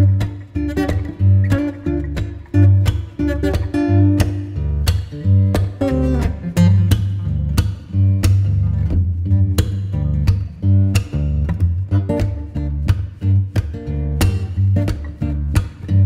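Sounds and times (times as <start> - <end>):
bass line: 0.0 - 16.0
plucked guitar: 0.0 - 16.0.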